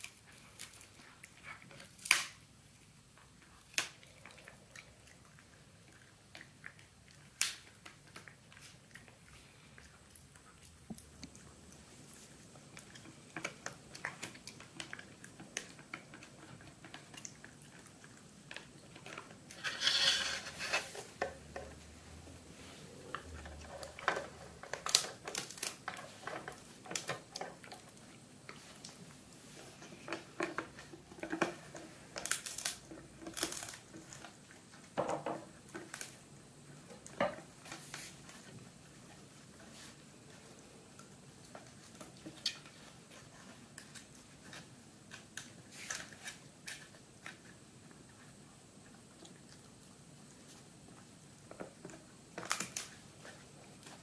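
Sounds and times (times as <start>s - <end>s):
dog chewing and crunching: 0.0s - 19.7s, 22.5s - 54.0s.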